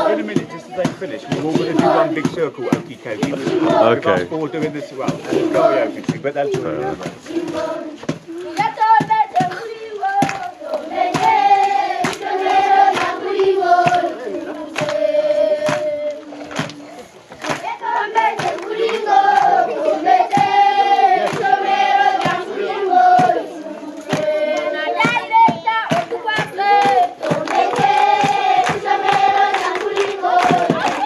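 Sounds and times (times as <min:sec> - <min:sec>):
children singing together: 0:00.0 - 0:06.0, 0:06.6 - 0:31.0
hand claps: 0:00.0 - 0:31.0.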